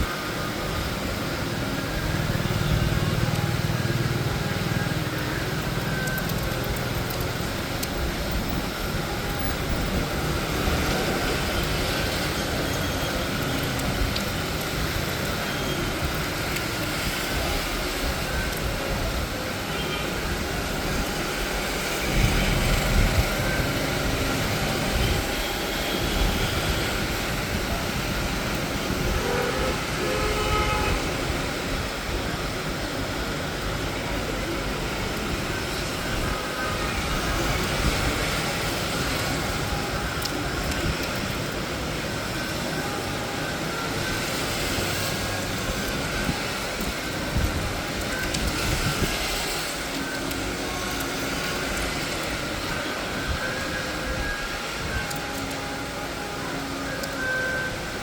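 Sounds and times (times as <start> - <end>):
moving vehicle rumble and hiss: 0.0 - 58.0.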